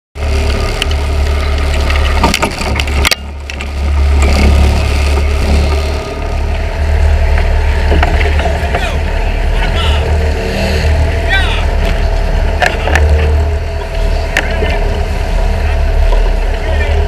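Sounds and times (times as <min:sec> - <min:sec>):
boat engine rumbling: 0:00.2 - 0:17.0
rushing water: 0:00.2 - 0:17.0.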